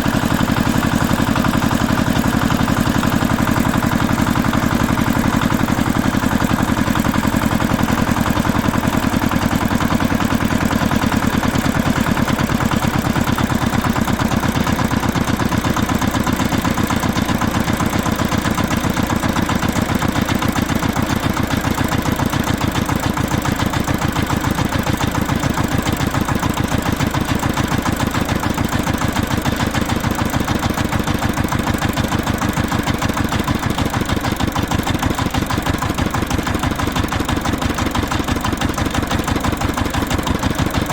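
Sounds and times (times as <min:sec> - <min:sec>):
lawn tractor engine idling: 0:00.0 - 0:40.9.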